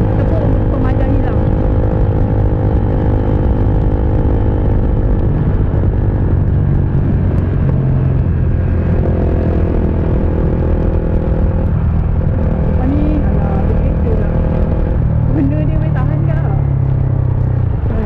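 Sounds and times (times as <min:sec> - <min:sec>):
motorcycle engine cruising: 0:00.0 - 0:18.0
road rumble: 0:00.0 - 0:18.0
wind noise on microphone: 0:00.0 - 0:18.0.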